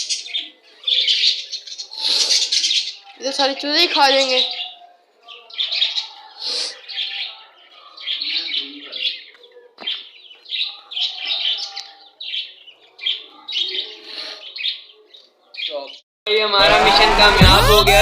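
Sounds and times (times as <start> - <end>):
parrots and chicks chirping: 0.0 - 15.9.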